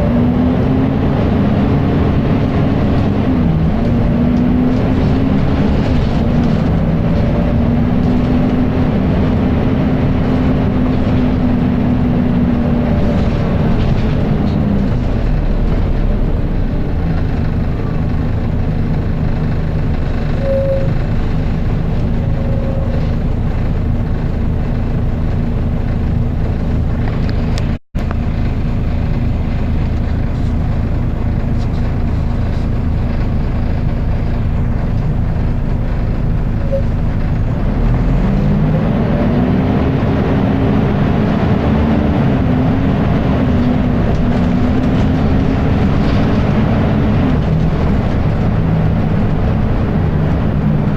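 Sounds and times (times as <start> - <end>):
bus diesel engine: 0.0 - 50.9.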